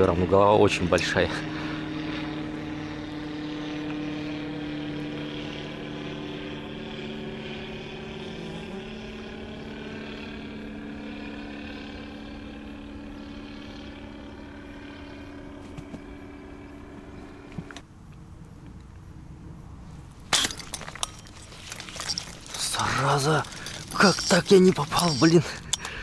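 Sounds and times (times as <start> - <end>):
drone propellers humming: 0.0 - 17.9, 20.0 - 26.0.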